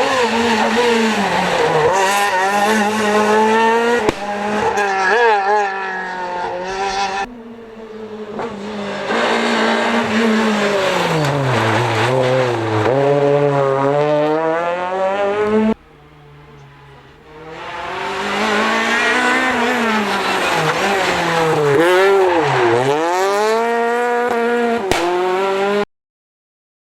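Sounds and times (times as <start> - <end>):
rally car engine revving: 0.0 - 25.8.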